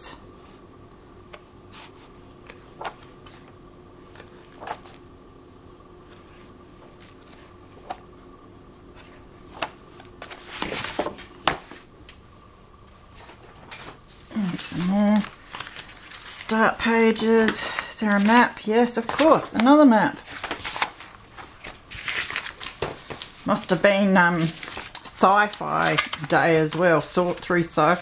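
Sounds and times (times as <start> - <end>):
book pages turning: 1.3 - 5.0, 6.0 - 8.0, 8.9 - 11.9, 13.2 - 28.0.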